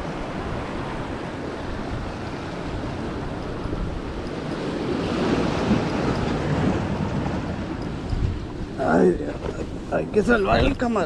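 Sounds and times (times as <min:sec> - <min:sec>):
sea waves breaking on boulders: 0:00.0 - 0:11.0
wind buffeting microphone: 0:00.0 - 0:11.0.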